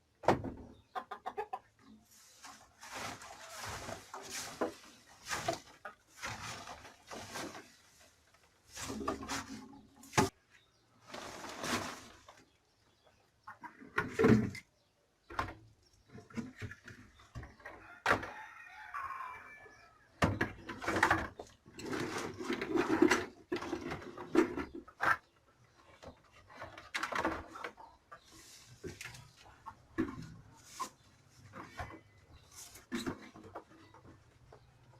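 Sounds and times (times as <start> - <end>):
things being moved and scraped: 1.9 - 12.6, 13.5 - 19.5, 20.2 - 34.9.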